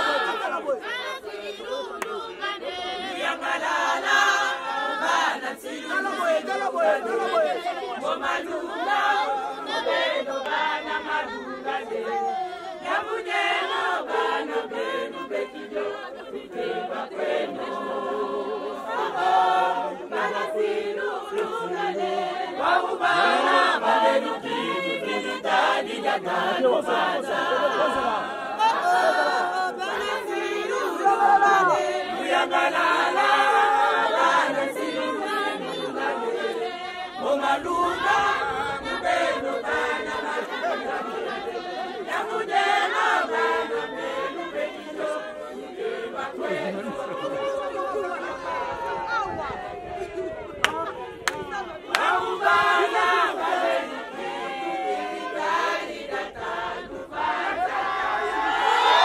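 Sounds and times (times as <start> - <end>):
group of women singing: 0.0 - 59.0.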